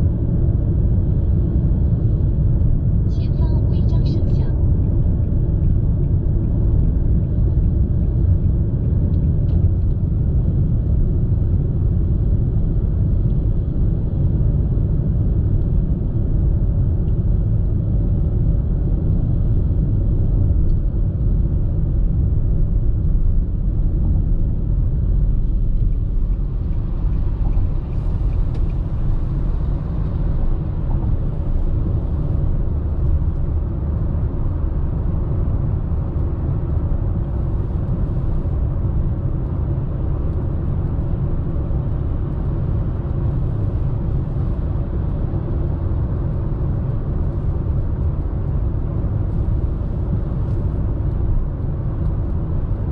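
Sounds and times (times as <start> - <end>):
car cabin road and engine rumble: 0.0 - 52.9.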